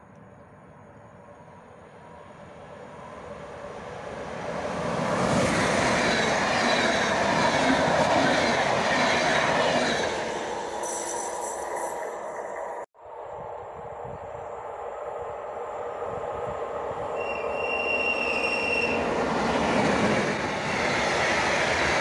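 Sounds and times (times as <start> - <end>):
train passing at speed: 0.1 - 22.0.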